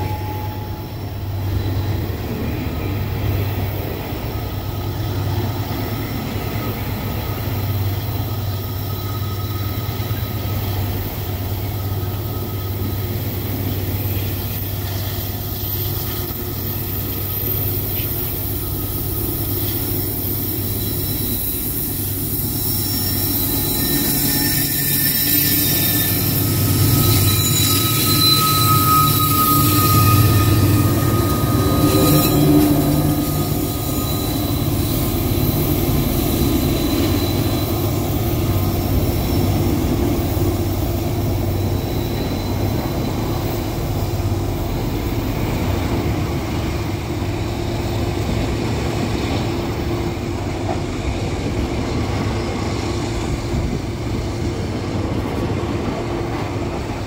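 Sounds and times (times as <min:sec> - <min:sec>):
diesel locomotives passing: 0:00.0 - 0:57.0
freight train cars rolling: 0:00.0 - 0:57.0
steel wheels squealing: 0:00.0 - 0:57.0.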